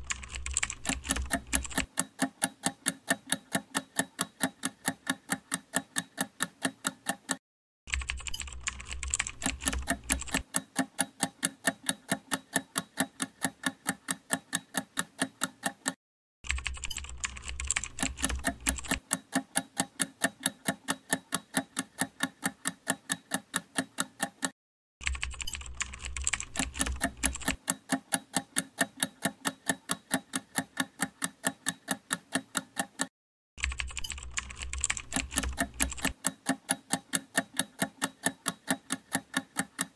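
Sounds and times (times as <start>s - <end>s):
clock ticking rapidly: 0.0s - 39.9s.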